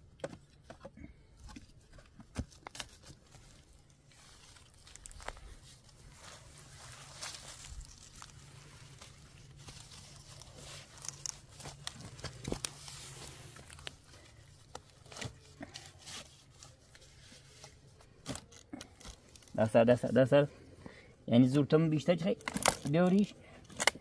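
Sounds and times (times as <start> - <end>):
rope rustling and scraping: 0.3 - 20.2.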